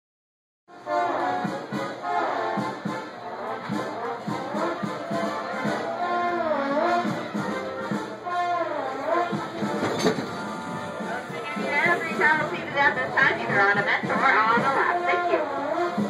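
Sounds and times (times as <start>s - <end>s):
brass music with bass beat: 0.7s - 16.0s.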